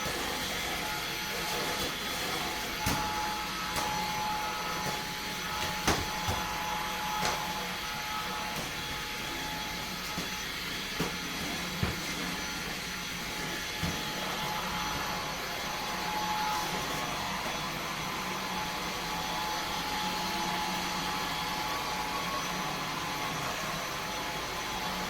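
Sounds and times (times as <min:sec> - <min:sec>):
vacuum cleaner whine: 0:00.0 - 0:25.0.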